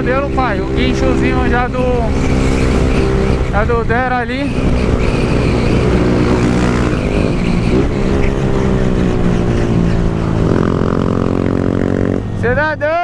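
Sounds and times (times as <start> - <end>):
wind rushing: 0.0 - 12.4
motorcycle engine cruising: 0.0 - 13.0.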